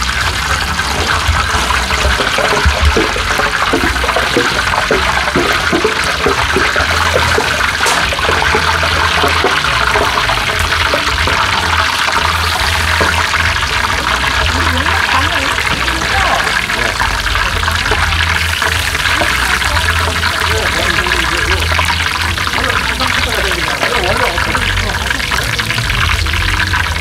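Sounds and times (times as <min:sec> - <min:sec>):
fritters deep-frying in oil: 0:00.0 - 0:27.0.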